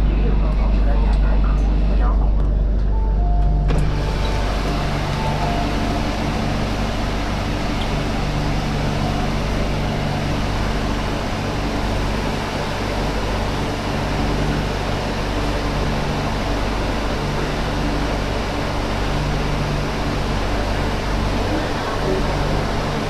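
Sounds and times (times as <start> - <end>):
low even hum: 0.0 - 23.0
train rumble and hiss: 0.0 - 23.0.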